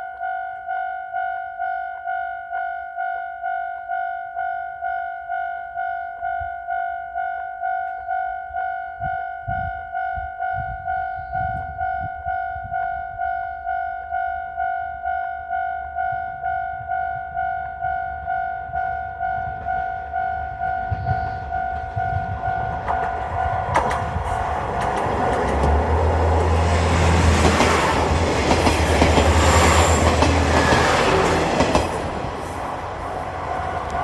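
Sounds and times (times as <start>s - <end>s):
railcar rumble and wheel noise: 0.0s - 34.0s.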